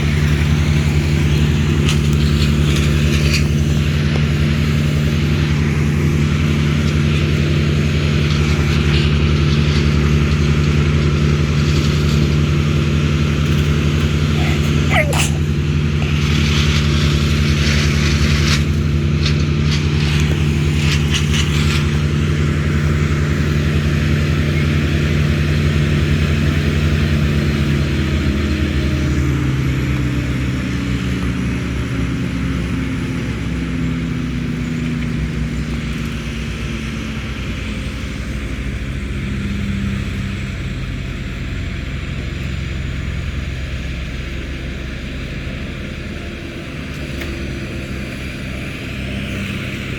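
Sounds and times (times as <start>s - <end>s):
large engine running: 0.0s - 49.9s.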